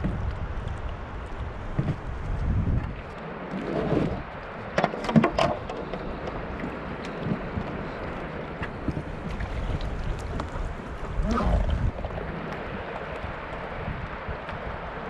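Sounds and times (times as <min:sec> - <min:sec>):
river current over stones: 0:00.0 - 0:15.0
wind buffeting microphone: 0:00.0 - 0:15.0.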